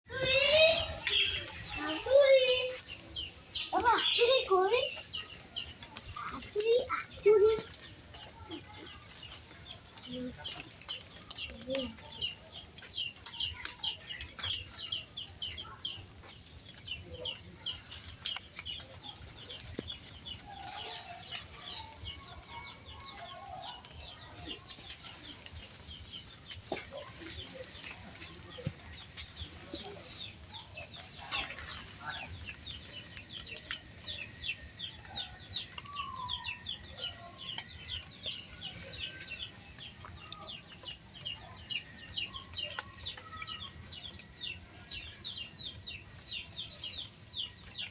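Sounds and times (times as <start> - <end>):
chickens clucking: 0.2 - 47.9.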